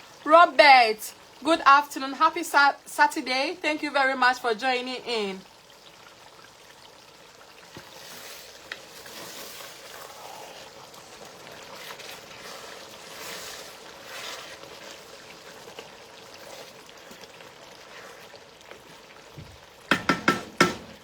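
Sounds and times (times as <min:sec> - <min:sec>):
pot of stew simmering: 0:00.0 - 0:21.0.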